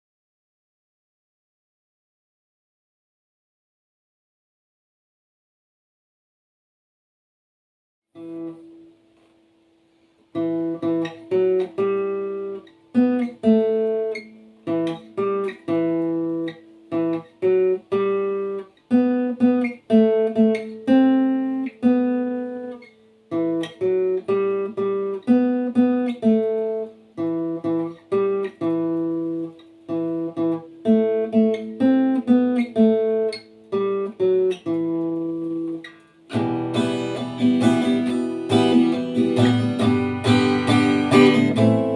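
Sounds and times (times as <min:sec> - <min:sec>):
acoustic guitar playing: 0:08.2 - 0:41.9.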